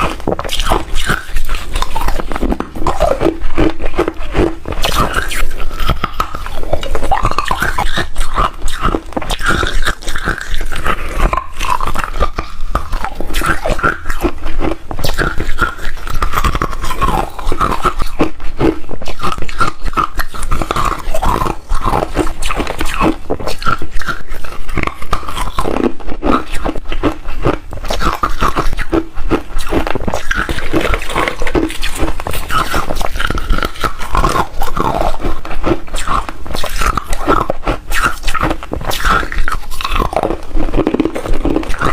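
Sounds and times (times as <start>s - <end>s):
ice being chewed crunching: 0.0s - 41.9s.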